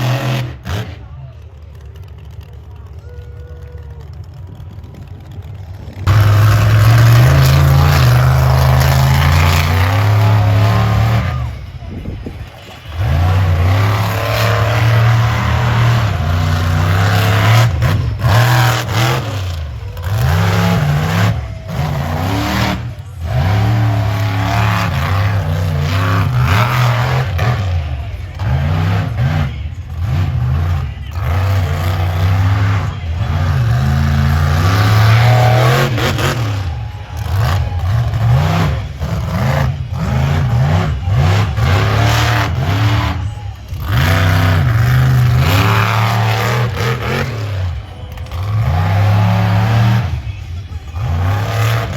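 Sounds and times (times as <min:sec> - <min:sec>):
monster truck engine revving: 0:00.0 - 0:51.9.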